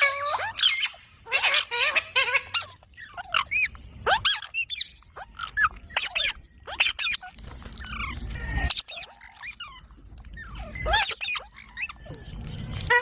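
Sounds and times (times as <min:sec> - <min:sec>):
baby parrots squawking: 0:00.0 - 0:13.0.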